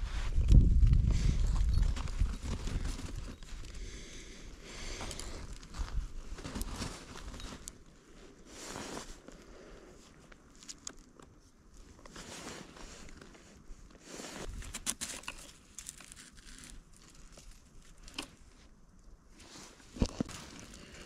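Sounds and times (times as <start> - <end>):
rustling and crinkling of jacket: 0.0 - 18.7, 19.3 - 21.0.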